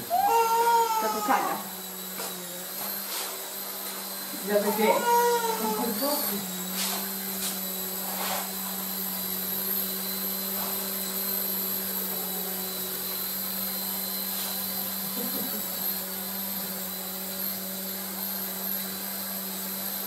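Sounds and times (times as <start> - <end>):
toy helicopter rotors whirring: 0.0 - 20.0.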